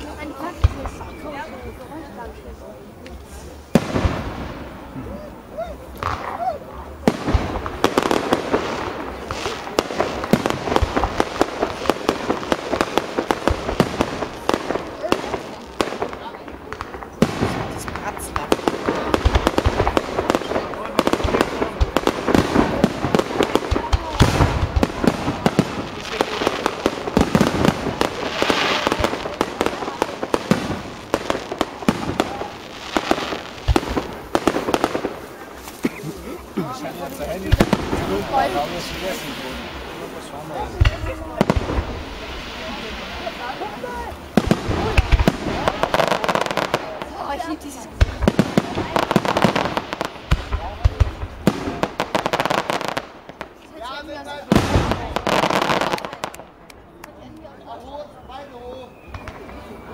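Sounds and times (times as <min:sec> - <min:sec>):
fireworks bangs and pops: 0:00.0 - 0:57.6, 0:58.2 - 0:59.9
fireworks crackling: 0:00.0 - 0:59.9.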